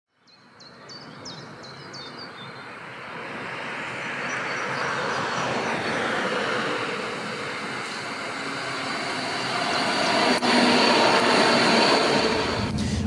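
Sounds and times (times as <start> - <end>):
tram running on track: 0.8 - 13.0.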